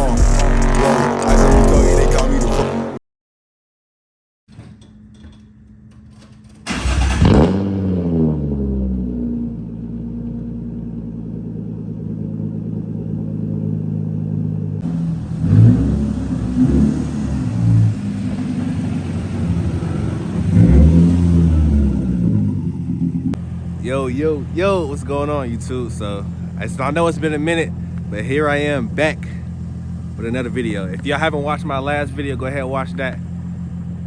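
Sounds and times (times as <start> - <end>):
car engine idling and revving: 0.0 - 3.0, 4.8 - 34.0.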